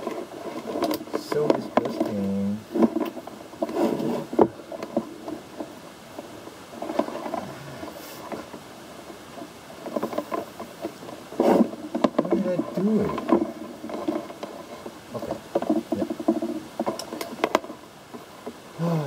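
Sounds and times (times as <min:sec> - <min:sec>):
cables and objects handled: 0:00.0 - 0:18.6.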